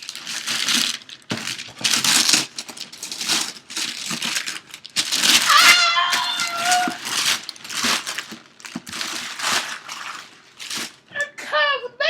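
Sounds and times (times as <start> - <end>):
paper crinkling and rustling: 0.0 - 11.2.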